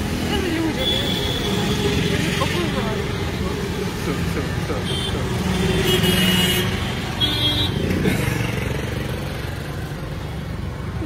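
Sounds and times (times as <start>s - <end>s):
road noise: 0.0s - 11.0s
traffic engines running: 0.0s - 11.0s.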